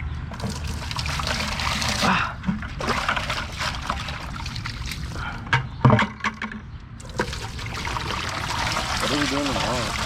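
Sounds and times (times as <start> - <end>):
water trickling into a bucket: 0.3 - 5.5, 7.0 - 10.0.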